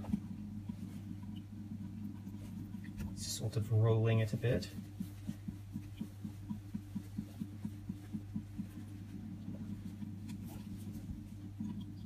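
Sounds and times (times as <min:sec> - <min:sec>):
low steady hum: 0:00.0 - 0:12.0
soft water drips: 0:00.0 - 0:12.0.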